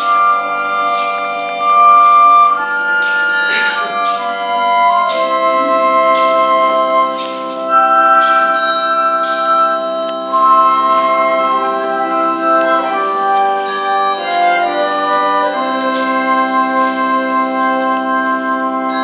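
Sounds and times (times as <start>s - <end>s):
organ sustained chords: 0.0s - 19.0s.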